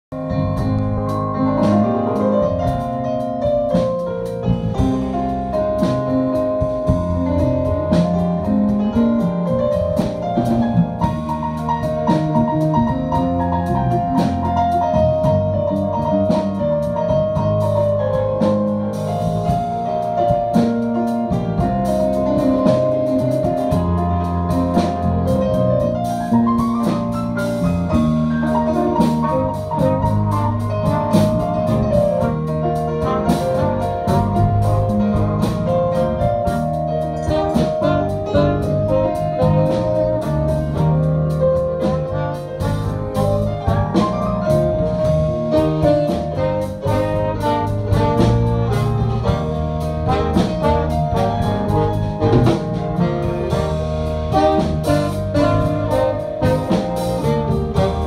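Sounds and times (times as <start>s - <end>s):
bass: 0.0s - 58.0s
drum kit with cymbals: 0.1s - 58.0s
electric keyboard: 0.1s - 58.0s
trumpet: 4.7s - 58.0s.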